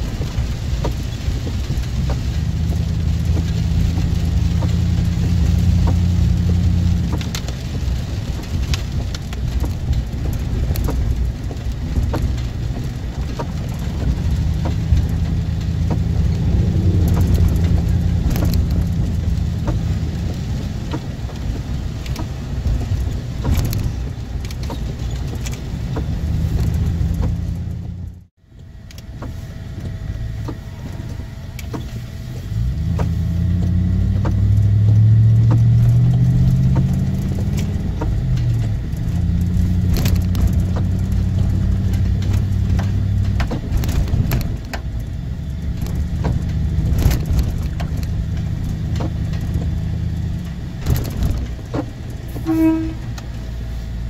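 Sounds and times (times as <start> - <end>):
car engine from inside cabin: 0.0 - 54.0
tyre noise on wet road: 0.0 - 54.0.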